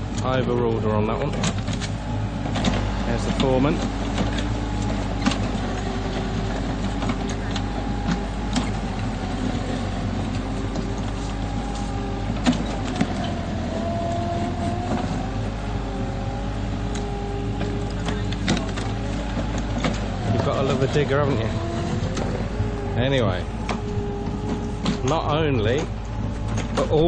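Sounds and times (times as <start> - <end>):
diesel engine running: 0.0 - 27.0
hydraulic whine: 0.0 - 27.0.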